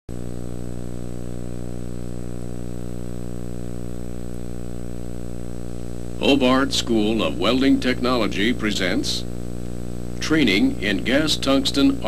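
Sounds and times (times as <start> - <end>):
electrical hum and buzz: 0.1 - 12.0
faint high whine: 0.1 - 12.0.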